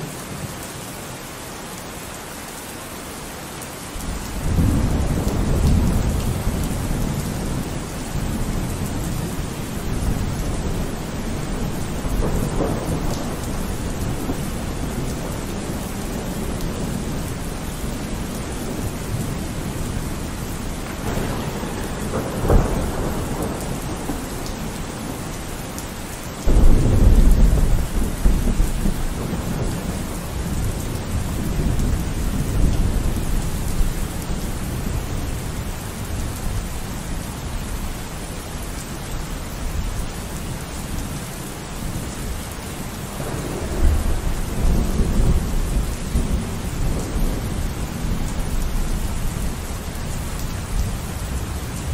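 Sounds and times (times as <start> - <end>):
rain: 0.0 - 51.9
wind gusting through palm trees: 0.0 - 51.9.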